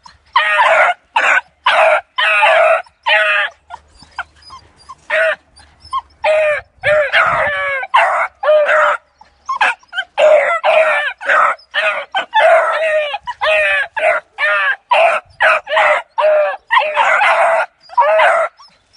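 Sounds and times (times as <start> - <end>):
puppies yelping and baying: 0.0 - 18.9.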